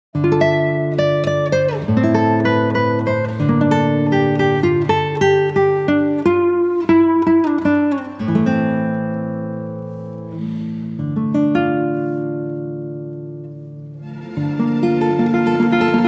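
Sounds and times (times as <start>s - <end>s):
acoustic guitar playing: 0.2s - 16.0s.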